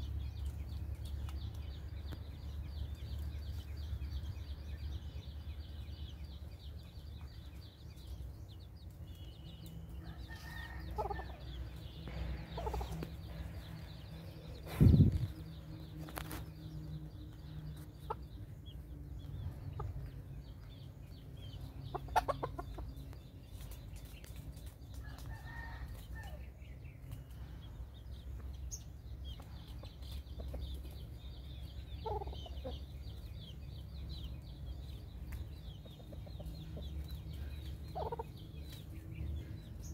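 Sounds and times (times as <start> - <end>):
chickens clucking: 0.0 - 39.9
low background rumble: 0.0 - 39.9.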